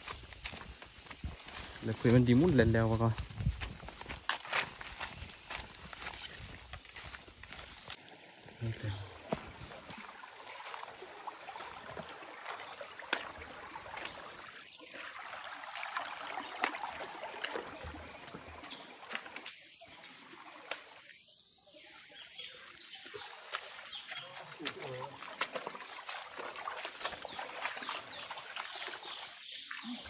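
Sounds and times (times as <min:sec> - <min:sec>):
water splashing: 0:00.0 - 0:19.4, 0:22.5 - 0:30.0
footsteps wading through water: 0:00.0 - 0:19.6, 0:22.4 - 0:30.0
water trickling over stones: 0:00.0 - 0:30.0.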